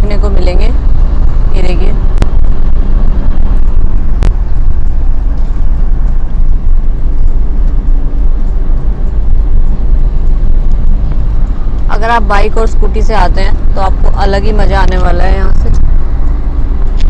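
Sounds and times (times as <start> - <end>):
vehicle road and wind rumble: 0.0 - 17.0.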